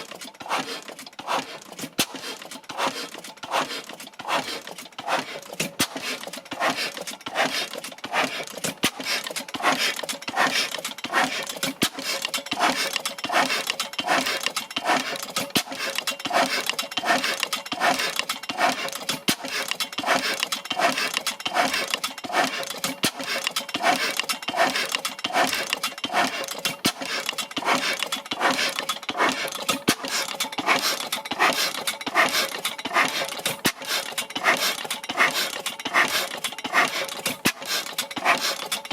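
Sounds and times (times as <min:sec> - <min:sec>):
oil engine running: 0:00.0 - 0:38.9.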